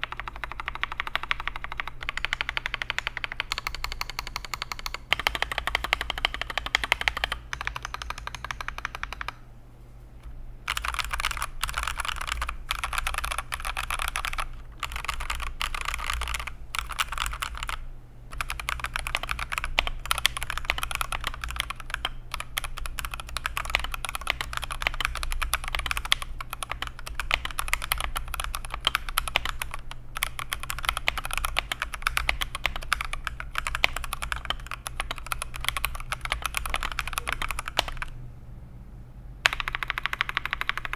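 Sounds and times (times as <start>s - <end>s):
fast typing on mechanical keyboard: 0.0s - 9.4s, 10.7s - 38.2s, 39.4s - 40.9s.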